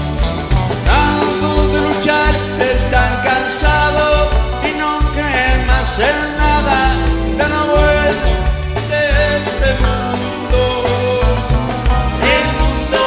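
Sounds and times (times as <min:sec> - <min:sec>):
live rock band: 0:00.0 - 0:13.0
man singing: 0:00.9 - 0:13.0.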